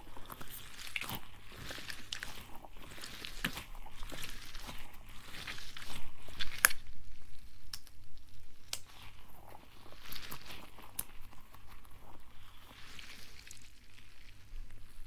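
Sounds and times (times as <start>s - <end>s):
soft rustling and scratching: 0.0s - 15.0s.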